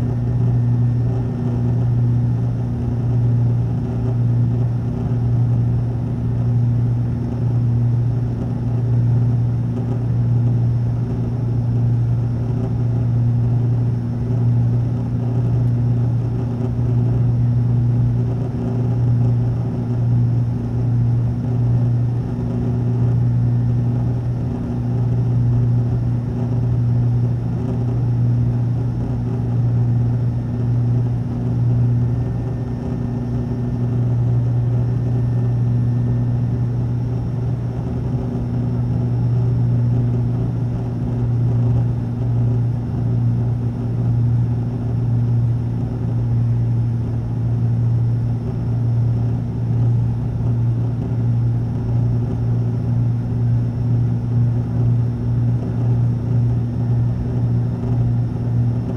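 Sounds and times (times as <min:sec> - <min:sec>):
propeller airliner cabin drone: 0:00.0 - 0:58.9.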